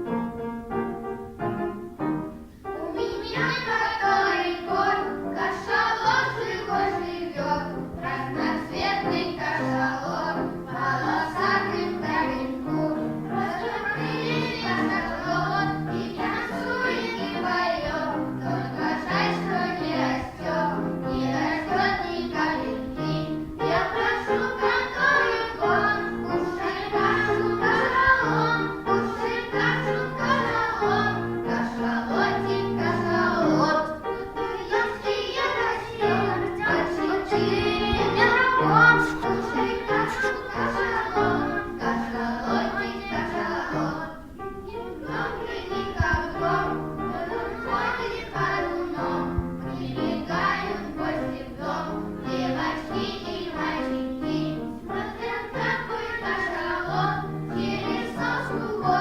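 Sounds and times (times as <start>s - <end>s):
children singing together: 0.0s - 59.0s
keyboard backing music: 0.0s - 59.0s.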